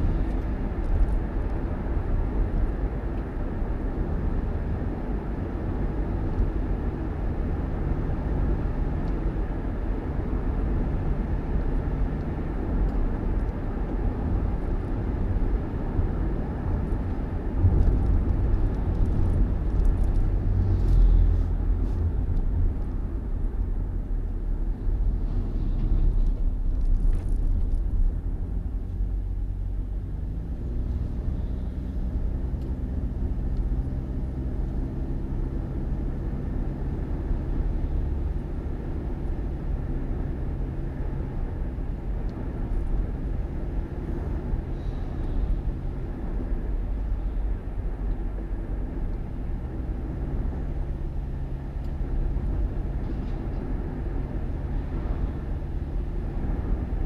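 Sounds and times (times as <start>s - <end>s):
road rumble: 0.0s - 57.0s
vehicle engine running: 0.0s - 57.0s.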